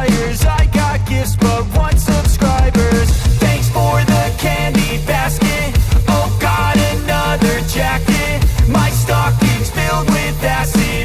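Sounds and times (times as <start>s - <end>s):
music with driving beat: 0.0s - 11.0s.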